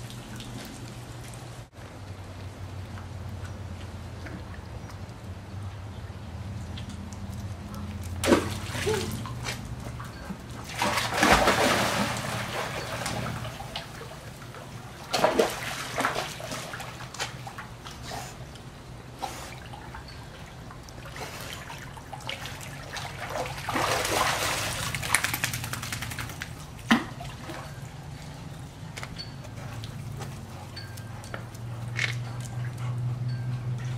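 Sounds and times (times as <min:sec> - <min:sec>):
water splashing and sloshing: 0:00.0 - 0:33.9.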